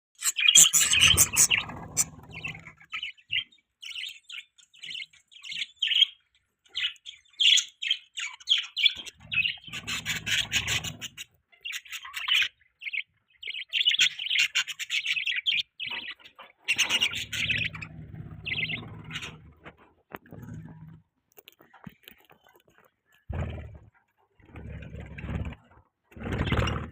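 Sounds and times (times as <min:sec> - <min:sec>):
budgies chirping: 0:00.2 - 0:21.0, 0:21.6 - 0:26.9.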